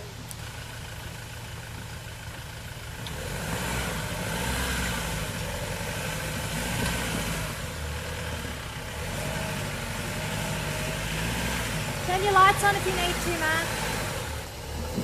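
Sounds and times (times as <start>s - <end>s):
diesel truck engine at low revs: 0.0s - 15.0s.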